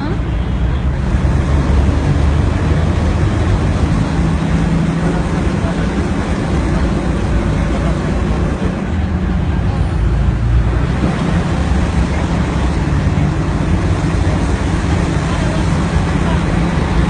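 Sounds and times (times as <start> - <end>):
boat engine humming: 0.0 - 17.0
rushing water: 0.0 - 17.0.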